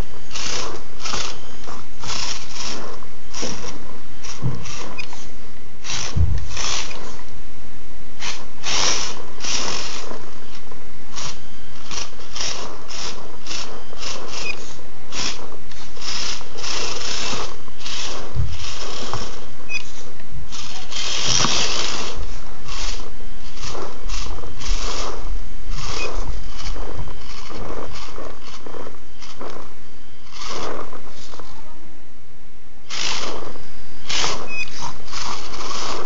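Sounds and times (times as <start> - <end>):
toy car electric motor whirring: 0.0 - 7.3, 8.2 - 31.7, 32.8 - 36.0.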